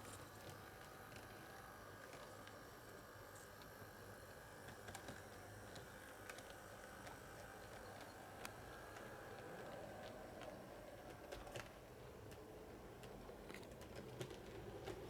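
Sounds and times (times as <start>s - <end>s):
model train electric hum: 0.0s - 15.0s.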